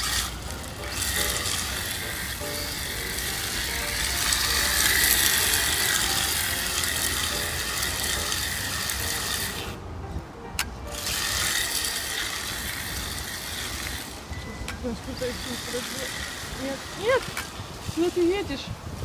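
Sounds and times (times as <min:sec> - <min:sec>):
toy car motor whirring: 0:00.0 - 0:09.8, 0:10.9 - 0:18.7.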